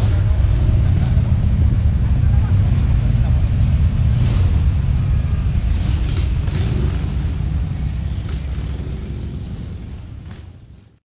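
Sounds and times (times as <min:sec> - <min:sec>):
motorcycles riding past: 0:00.0 - 0:11.0.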